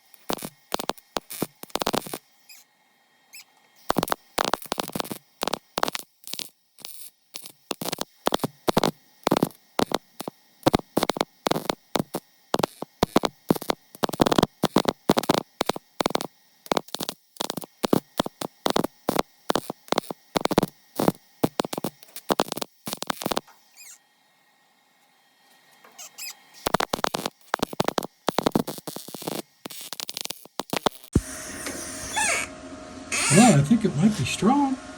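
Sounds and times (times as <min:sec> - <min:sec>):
welding arc crackling: 0:00.0 - 0:02.7, 0:03.3 - 0:24.0, 0:25.8 - 0:32.5.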